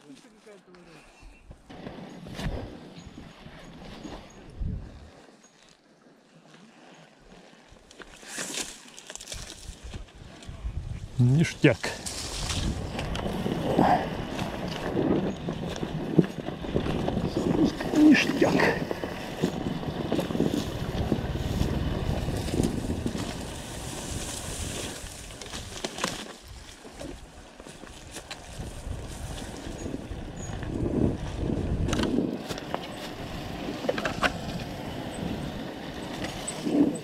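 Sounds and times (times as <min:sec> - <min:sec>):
wind rumble on microphone: 0:01.2 - 0:05.2, 0:09.4 - 0:37.0.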